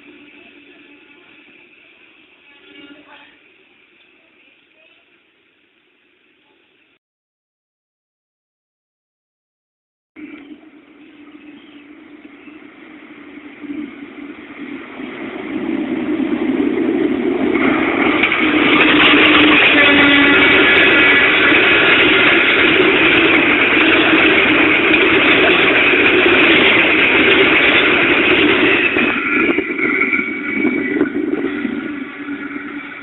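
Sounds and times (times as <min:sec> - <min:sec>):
train wheel noise on bridge: 0:00.0 - 0:05.6, 0:10.2 - 0:33.0
locomotive engine rumble: 0:00.0 - 0:06.6, 0:10.2 - 0:33.0.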